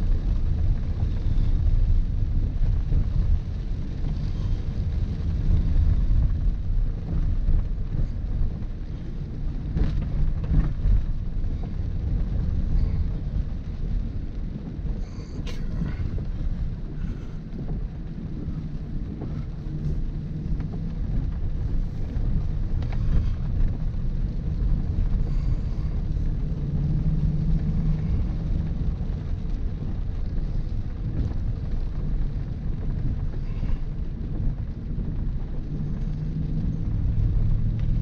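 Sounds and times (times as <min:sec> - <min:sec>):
car driving on gravel: 0:00.0 - 0:38.0.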